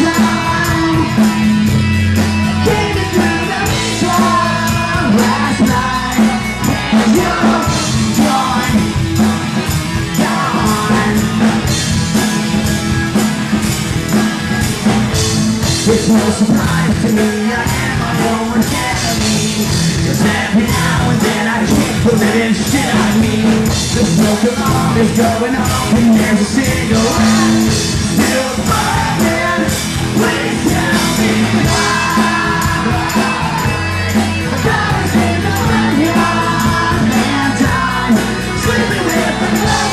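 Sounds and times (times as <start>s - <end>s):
man singing: 0.0s - 11.8s, 15.6s - 39.9s
drum kit: 0.0s - 39.9s
electric guitar: 0.0s - 39.9s.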